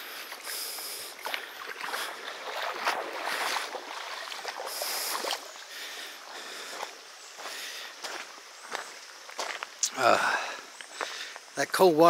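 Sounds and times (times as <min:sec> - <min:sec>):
footsteps splashing in water: 0:00.0 - 0:09.9
footsteps on gravel: 0:00.0 - 0:11.9.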